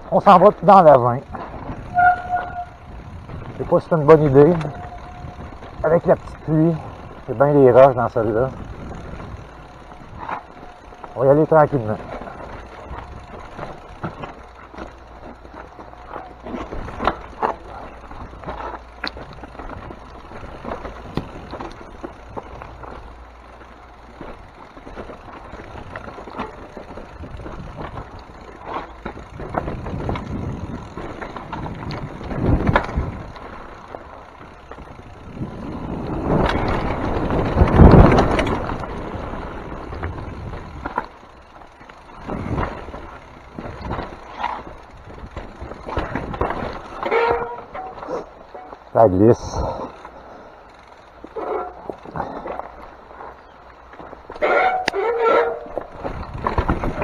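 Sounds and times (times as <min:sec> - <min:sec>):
bike knocking and rattling: 0:00.0 - 0:57.0
bike tyres crunching over rocks: 0:00.0 - 0:57.0.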